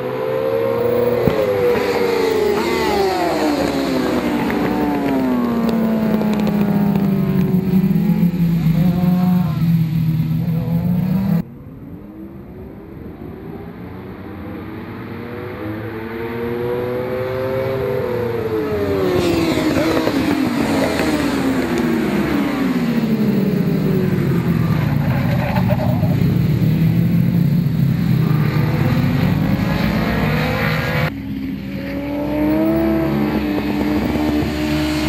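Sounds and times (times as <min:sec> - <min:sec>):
racing motorcycle engines revving: 0:00.0 - 0:35.0.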